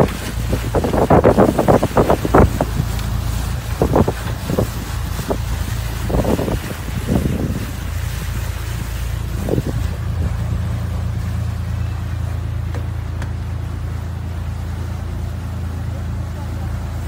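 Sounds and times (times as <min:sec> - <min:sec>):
boat engine low hum: 0:00.0 - 0:17.0
water noise: 0:00.0 - 0:17.0
wind: 0:00.0 - 0:17.0.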